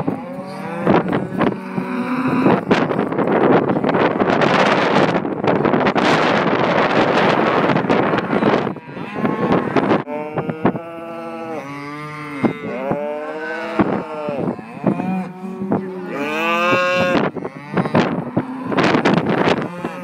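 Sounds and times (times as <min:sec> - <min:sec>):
cattle mooing: 0:00.0 - 0:04.4, 0:07.0 - 0:20.0
wind noise on microphone: 0:00.0 - 0:20.0.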